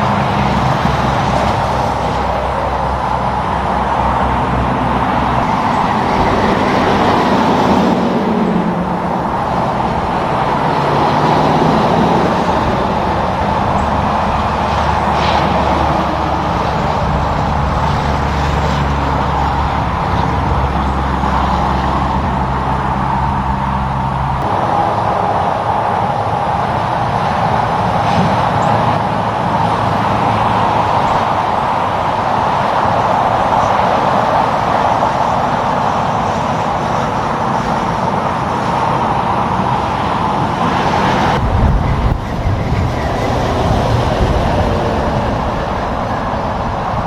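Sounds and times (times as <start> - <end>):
truck engine drone: 0.0 - 47.0
tyre and road noise: 0.0 - 47.0.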